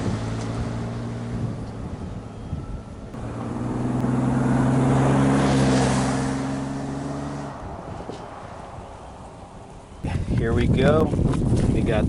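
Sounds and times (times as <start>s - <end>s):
low engine drone: 0.0s - 10.1s.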